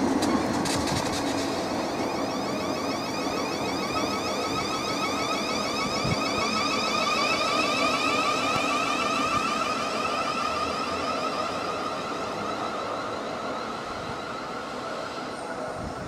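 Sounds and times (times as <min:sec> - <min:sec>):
electric traction motor whine: 0:00.0 - 0:16.0
rail and running noise: 0:00.0 - 0:16.0.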